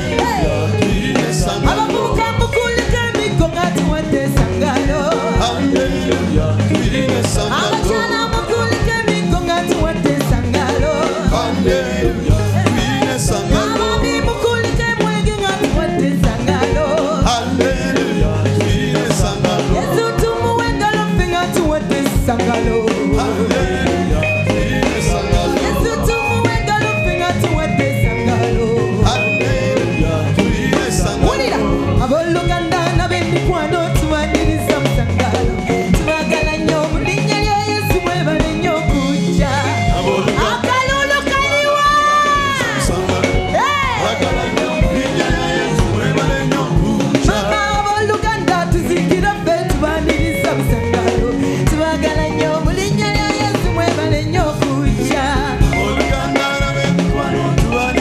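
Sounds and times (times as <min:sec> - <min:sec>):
amplified instrumental accompaniment: 0:00.0 - 0:58.0
gospel choir singing: 0:00.0 - 0:58.0
upbeat drum beat: 0:00.0 - 0:58.0.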